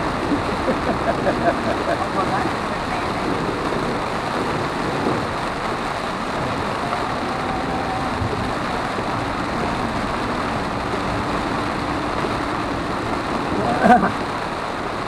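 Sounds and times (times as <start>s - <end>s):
car engine hum: 0.0s - 15.0s
rain on car: 0.0s - 15.0s
tyres hissing on wet road: 0.0s - 15.0s.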